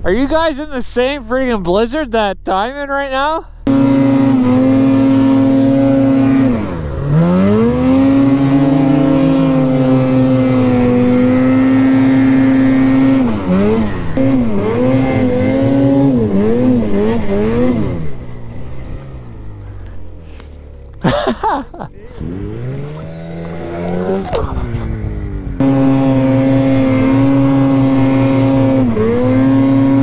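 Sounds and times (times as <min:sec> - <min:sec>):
snowmobile engine revving: 0:00.0 - 0:30.0.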